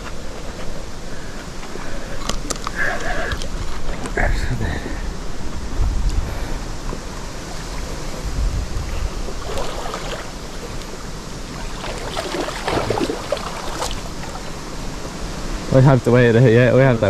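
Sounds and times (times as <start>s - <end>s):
river water splashing: 0.0s - 5.8s, 6.5s - 16.4s
wind rumbling on microphone: 0.0s - 17.0s.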